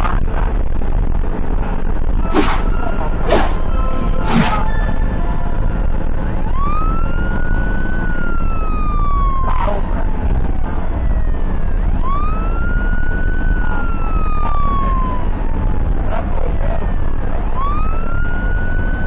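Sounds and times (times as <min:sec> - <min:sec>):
road and engine rumble: 0:00.0 - 0:19.0
ambulance siren wailing: 0:02.2 - 0:19.0.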